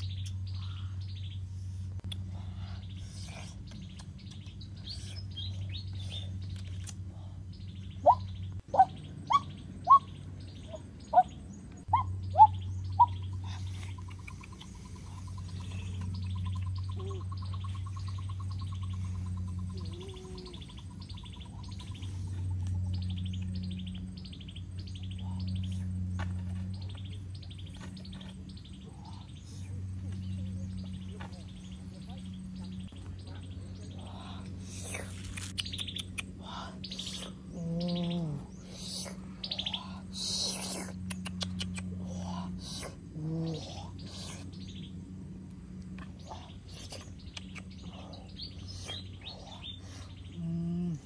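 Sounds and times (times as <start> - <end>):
birds chirping and singing: 0.0 - 51.0
steady low hum: 0.0 - 51.0.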